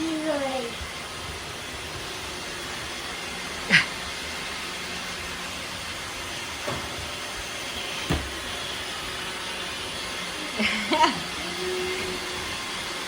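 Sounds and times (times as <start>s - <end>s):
robot vacuum cleaners whirring: 0.0s - 13.0s.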